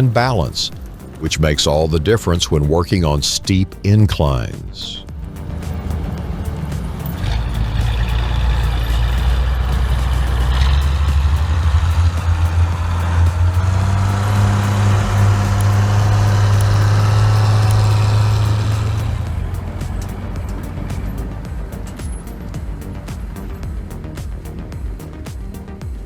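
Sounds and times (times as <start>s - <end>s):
heavy diesel engine revving: 3.8s - 25.7s.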